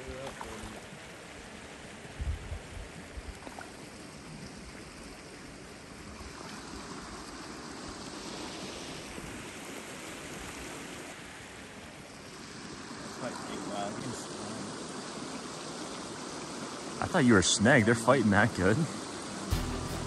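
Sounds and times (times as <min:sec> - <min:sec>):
stream flowing over gravel: 0:00.0 - 0:19.5.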